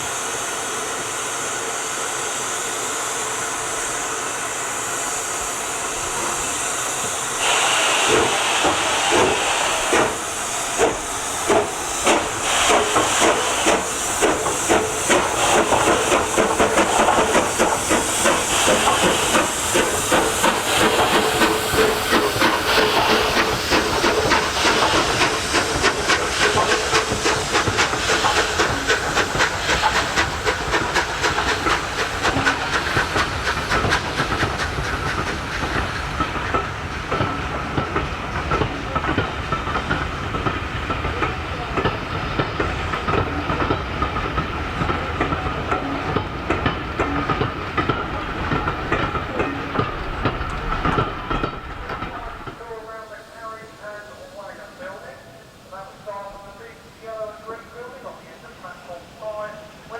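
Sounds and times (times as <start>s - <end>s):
steam locomotive hissing: 0.0s - 59.9s
locomotive exhaust beats: 6.0s - 55.2s.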